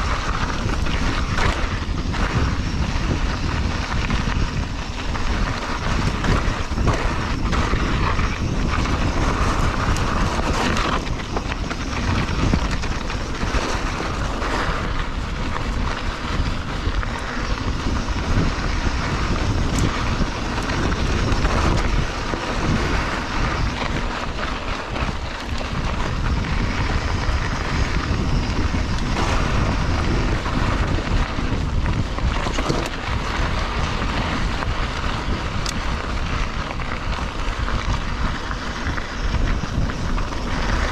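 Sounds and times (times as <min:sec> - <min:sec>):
bike rattling over bumps: 0:00.0 - 0:40.9
tyre noise on dirt: 0:00.0 - 0:40.9
wind rush on microphone: 0:00.0 - 0:40.9.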